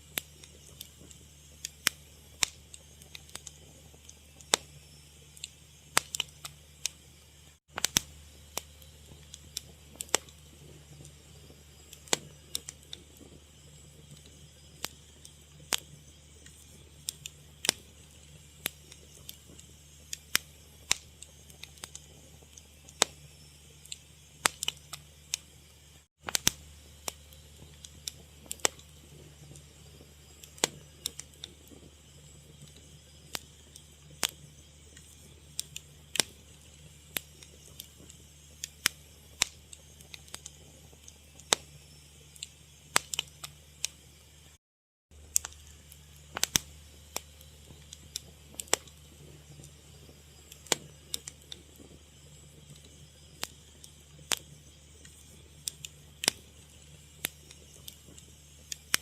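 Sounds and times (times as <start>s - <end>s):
low steady hum: 0.0s - 44.6s, 45.2s - 59.0s
fire crackling and popping: 0.0s - 59.0s.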